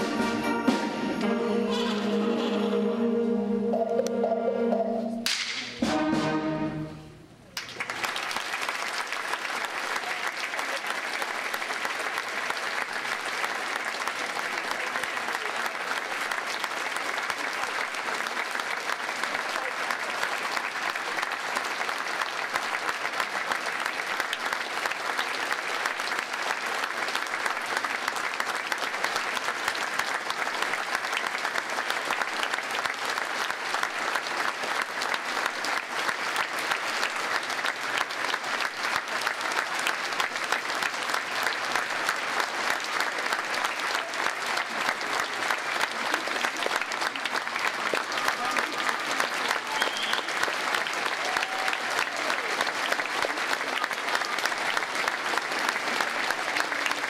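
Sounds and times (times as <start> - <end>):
audience applauding: 7.5 - 57.0.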